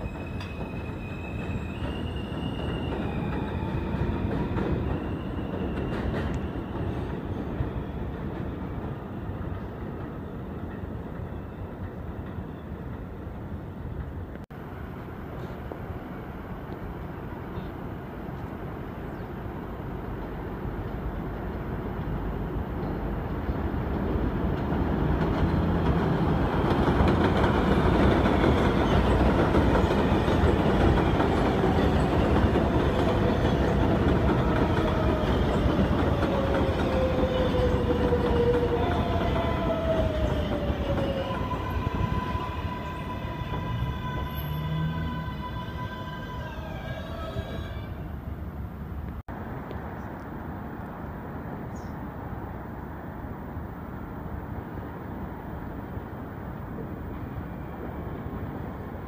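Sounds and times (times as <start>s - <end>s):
train wheel rumble and rail clatter: 0.0s - 59.0s.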